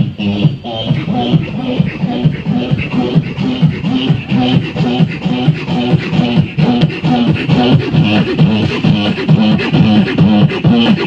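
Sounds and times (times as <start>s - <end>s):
beatboxing through loudspeaker: 0.0s - 11.0s.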